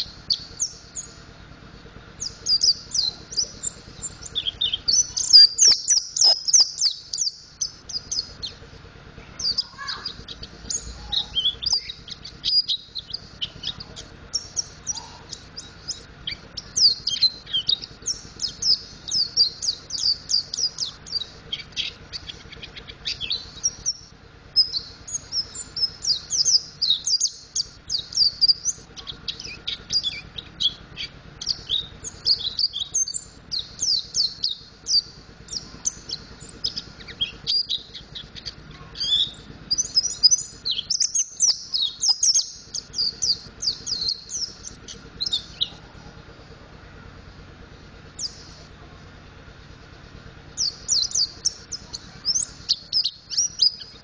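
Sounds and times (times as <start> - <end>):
bird twittering song: 0.0 - 46.2, 47.8 - 48.8, 50.0 - 54.0.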